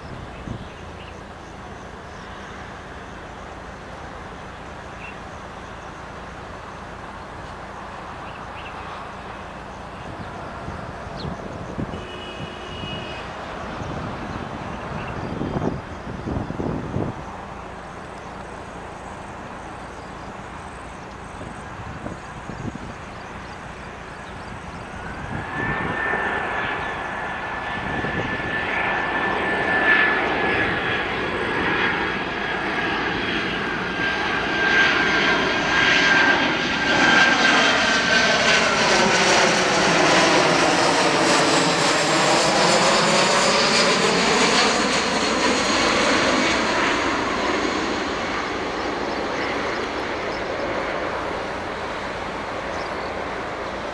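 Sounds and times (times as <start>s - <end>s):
hollow whoosh of plane overhead: 0.0s - 53.9s
jet engine fan whine: 0.0s - 53.9s
jet engine rumble: 0.0s - 53.9s.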